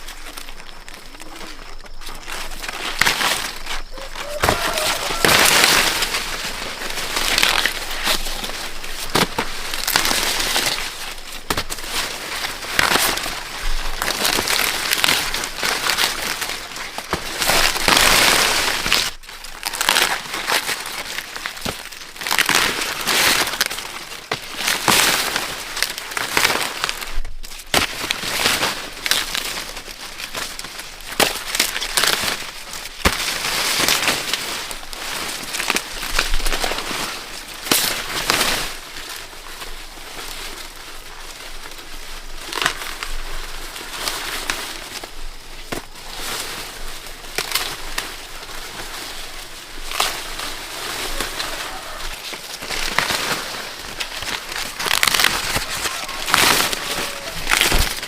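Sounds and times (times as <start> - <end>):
dry corn leaves rustling: 0.0 - 58.0.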